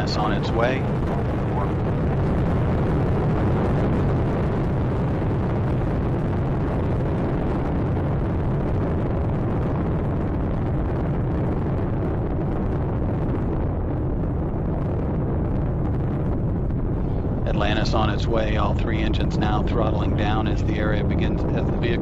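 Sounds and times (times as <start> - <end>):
rocket engines deep rumble: 0.0 - 22.0.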